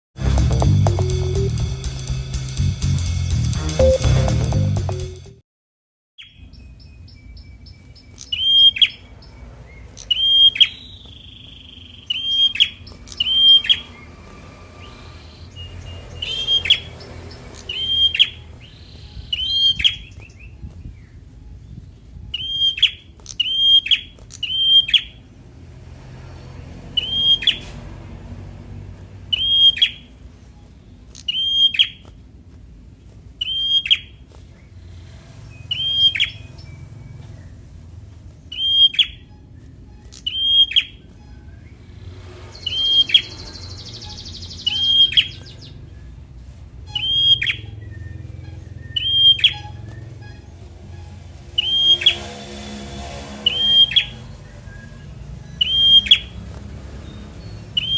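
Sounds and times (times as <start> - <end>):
bird chirping: 3.8 - 5.2, 6.2 - 27.8, 29.2 - 32.1, 33.4 - 57.9.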